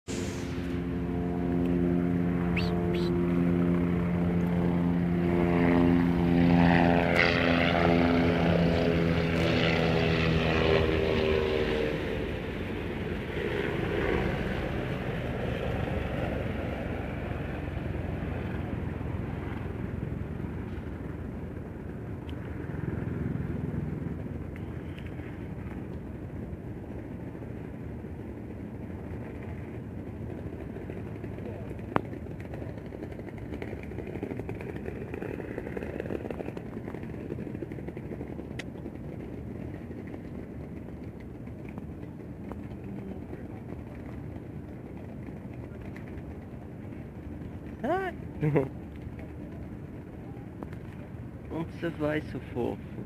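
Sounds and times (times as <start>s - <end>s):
steady engine drone: 0.0s - 53.0s.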